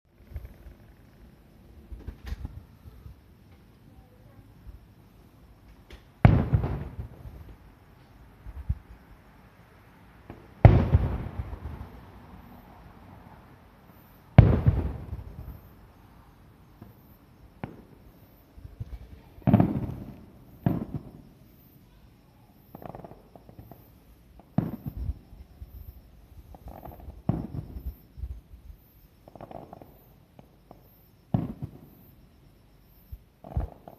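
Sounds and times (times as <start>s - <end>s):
fireworks booming with echo: 0.2s - 4.8s, 5.6s - 9.2s, 10.0s - 32.3s, 33.1s - 33.9s.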